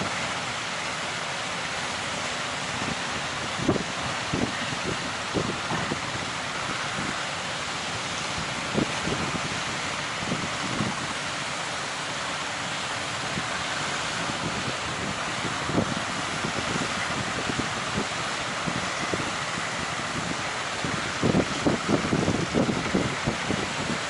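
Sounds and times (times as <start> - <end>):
ocean waves: 0.0 - 24.0
wind buffeting microphone: 2.6 - 11.4, 12.7 - 24.0.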